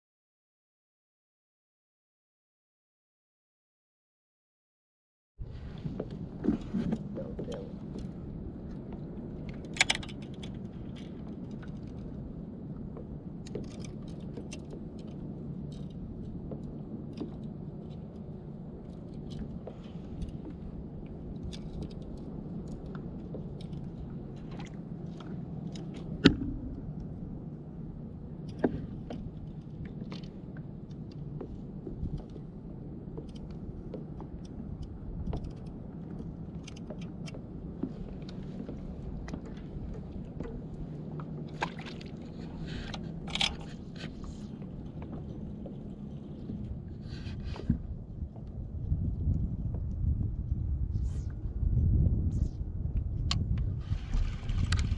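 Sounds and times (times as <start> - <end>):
low rumble of wind and water: 5.4 - 54.9.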